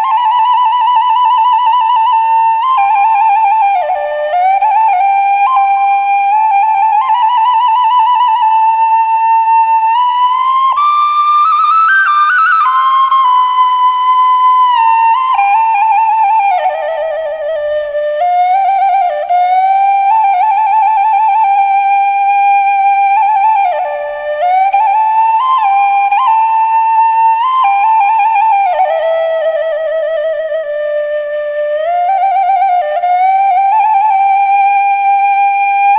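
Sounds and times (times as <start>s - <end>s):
solo flute melody: 0.0s - 35.9s.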